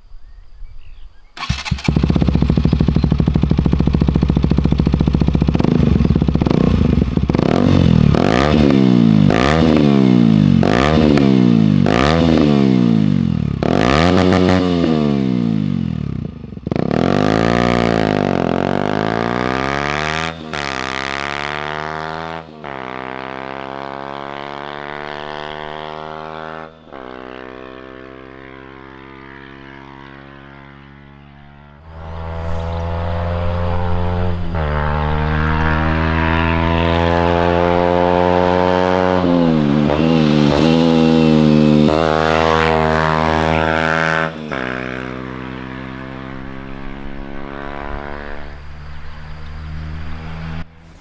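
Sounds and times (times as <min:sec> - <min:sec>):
motorcycle engine idling and revving: 0:01.3 - 0:51.0
motorcycle accelerating through gears: 0:01.4 - 0:51.0.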